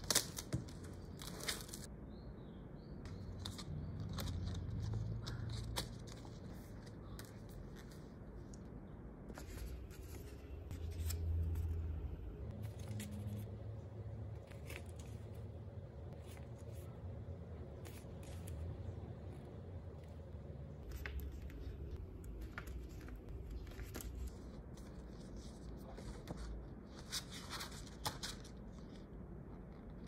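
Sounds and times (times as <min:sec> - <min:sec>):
book pages turning: 0:00.0 - 0:01.9, 0:03.2 - 0:08.7, 0:09.3 - 0:30.0
bookmarks shuffled: 0:00.0 - 0:01.9, 0:03.2 - 0:08.7, 0:09.3 - 0:29.1.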